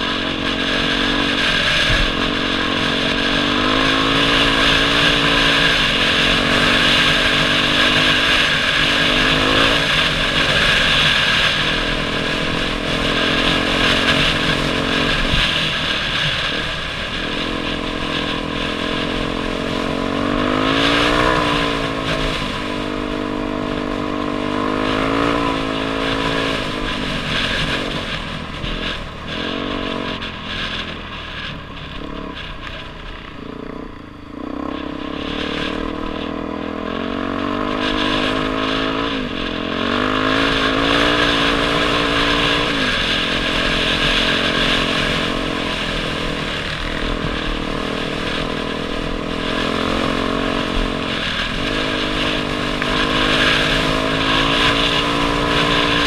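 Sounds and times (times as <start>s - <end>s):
dirt bike engine revving: 0.0s - 56.0s
steady rushing noise: 0.0s - 56.0s.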